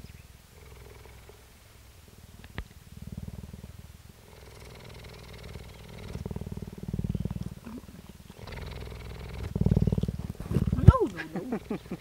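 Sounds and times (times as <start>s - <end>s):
cheetah purring: 0.6s - 1.5s, 2.4s - 12.0s.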